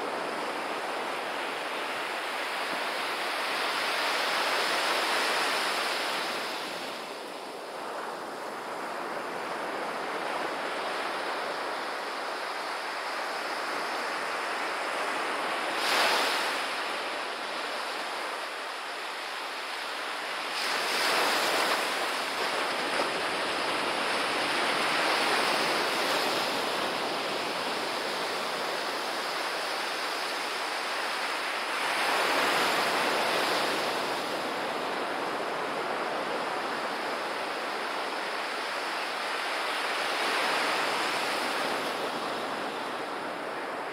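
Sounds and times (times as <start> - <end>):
surf washing up a sandy beach: 0.0 - 43.9.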